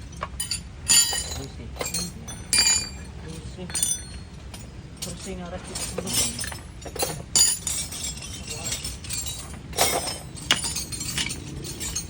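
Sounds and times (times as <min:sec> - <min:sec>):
metal tools clinking: 0:00.1 - 0:12.0.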